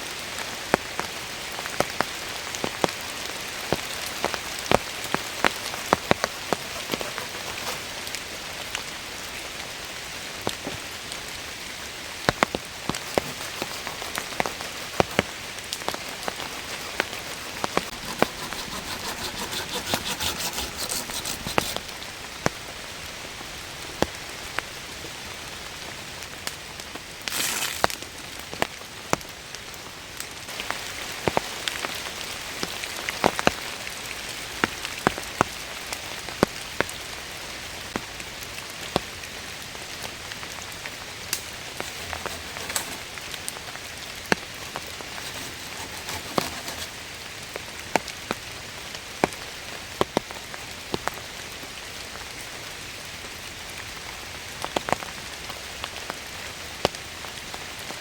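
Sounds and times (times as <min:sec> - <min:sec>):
steady rain falling: 0:00.0 - 0:17.7, 0:21.9 - 0:45.2, 0:47.0 - 0:58.0.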